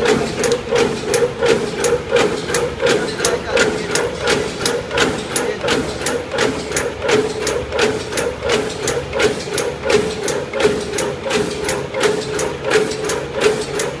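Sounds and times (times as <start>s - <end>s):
machine humming: 0.0s - 14.0s
machine rhythmic mechanical clack: 0.0s - 14.0s.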